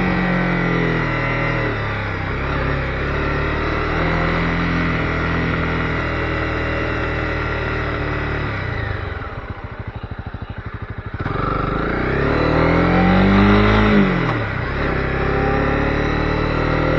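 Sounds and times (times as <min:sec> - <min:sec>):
motorcycle engine revving and idling: 0:00.0 - 0:16.9.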